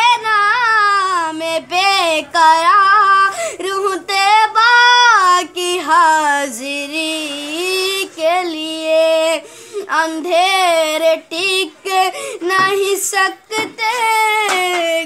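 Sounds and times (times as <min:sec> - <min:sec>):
boy singing unaccompanied: 0:00.0 - 0:15.0.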